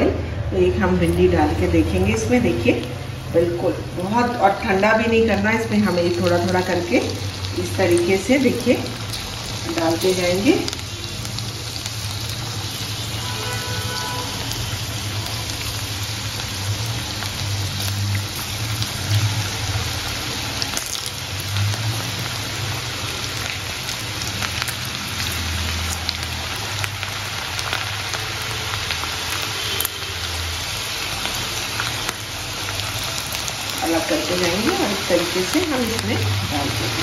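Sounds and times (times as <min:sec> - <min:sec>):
okra sizzling in hot oil: 0:00.1 - 0:37.0.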